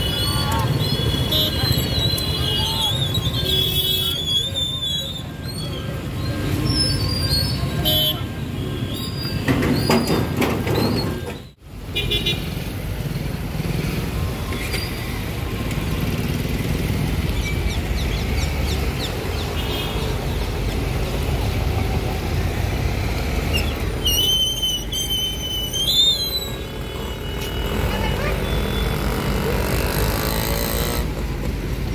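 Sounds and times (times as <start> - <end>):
vehicles passing: 0.0 - 31.9.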